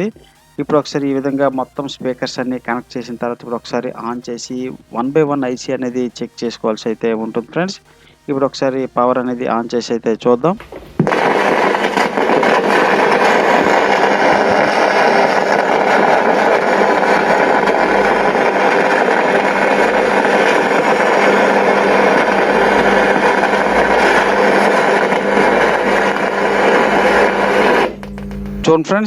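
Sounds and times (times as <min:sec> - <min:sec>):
speaker hum with hiss: 0:00.0 - 0:29.0.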